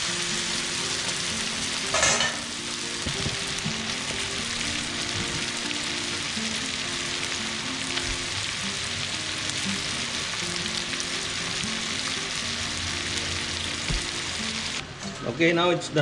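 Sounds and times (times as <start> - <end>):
food sizzling in a wok: 0.0 - 14.8.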